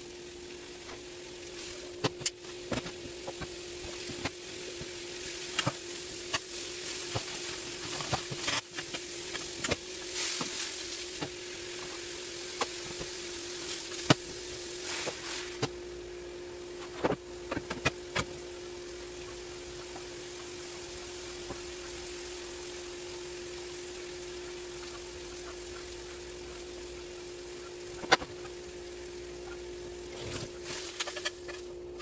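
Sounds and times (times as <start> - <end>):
low hum: 0.0 - 32.0
vegetables sizzling in butter: 0.0 - 32.0.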